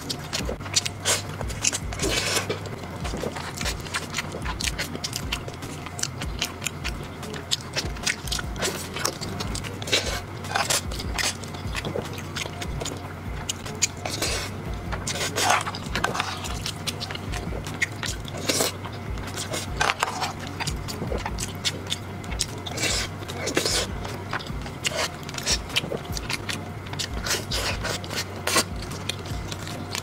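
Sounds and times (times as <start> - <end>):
slurp: 0.0 - 30.0
wet chewing and lip smacking: 0.0 - 30.0.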